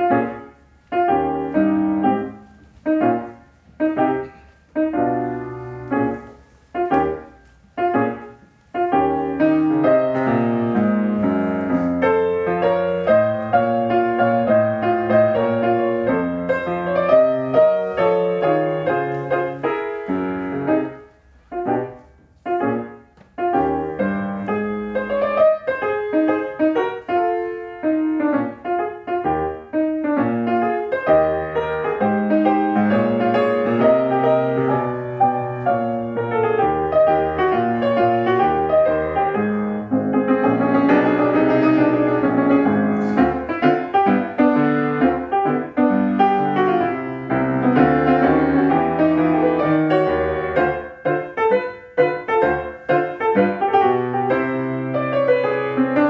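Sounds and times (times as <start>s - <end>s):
grand piano piece: 0.0s - 56.0s.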